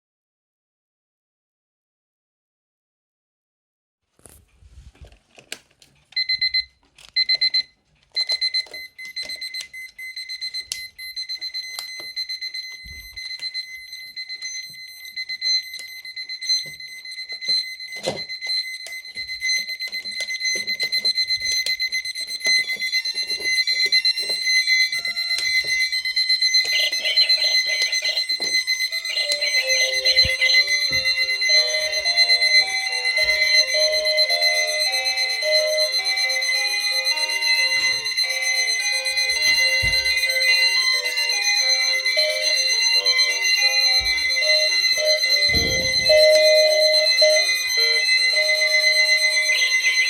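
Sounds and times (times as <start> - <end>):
alarm clock beeping: 6.2 - 50.0
alarm with stepping tones: 6.2 - 50.0.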